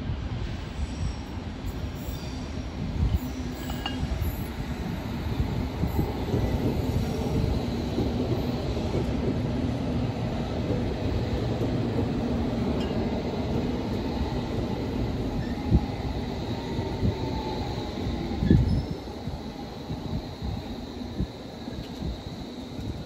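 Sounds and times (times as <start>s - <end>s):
train wheels rumbling: 0.4s - 23.0s.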